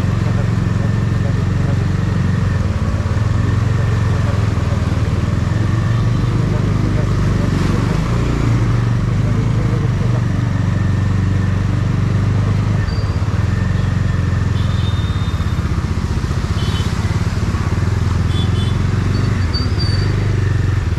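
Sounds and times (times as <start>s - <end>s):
motorcycle engines running: 0.0s - 20.9s.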